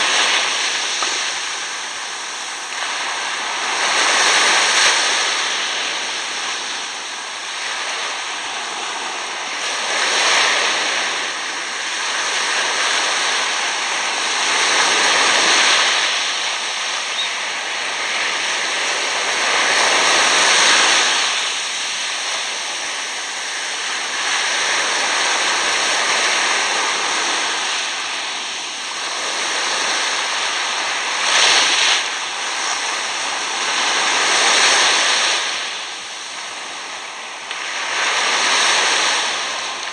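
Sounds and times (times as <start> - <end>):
small waves washing on sand: 0.0 - 39.9.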